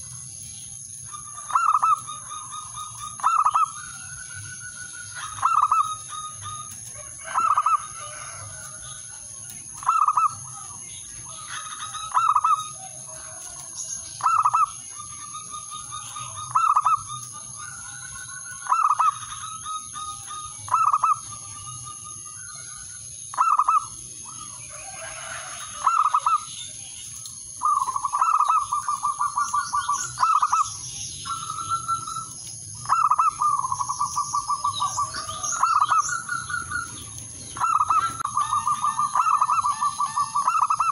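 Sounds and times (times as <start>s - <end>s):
dove cooing: 1.0s - 26.5s, 27.6s - 40.9s.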